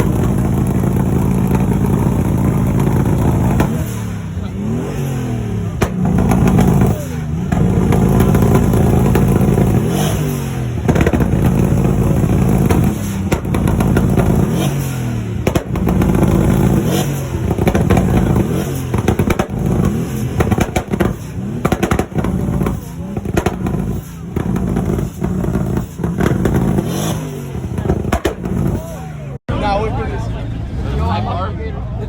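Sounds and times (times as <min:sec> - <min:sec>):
exhaust pops and crackles: 0:00.0 - 0:29.4
engine revving: 0:00.0 - 0:29.5.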